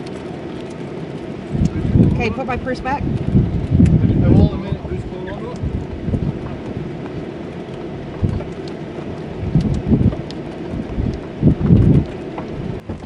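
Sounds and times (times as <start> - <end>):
heavy rain on a vehicle: 0.0 - 13.0
low rumbling wind gusts: 0.0 - 13.0
rain drops ticking: 0.0 - 13.0.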